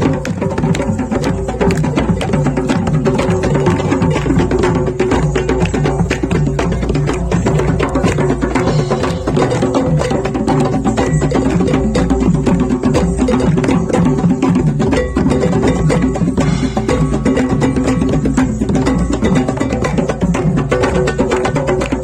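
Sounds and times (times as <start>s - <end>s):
background music with fast percussion: 0.0s - 22.0s.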